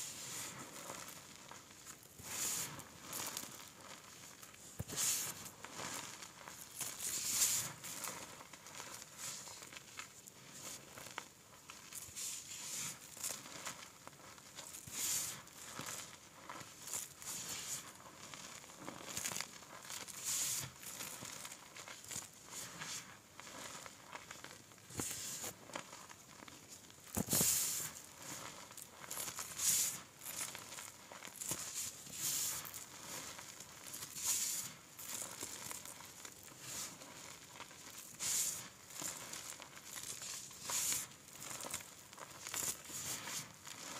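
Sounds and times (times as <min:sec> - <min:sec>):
hands crunching powdered chalk: 0:00.0 - 0:43.9.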